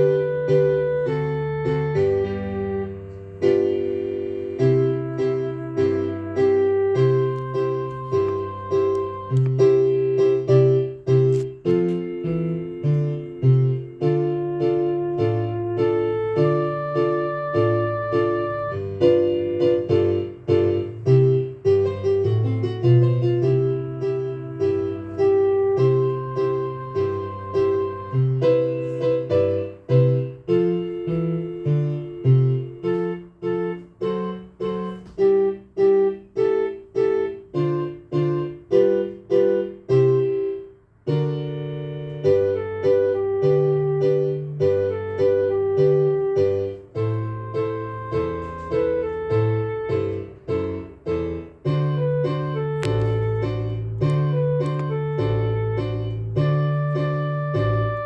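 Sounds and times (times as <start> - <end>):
piano playing a foxtrot: 0.0 - 58.0.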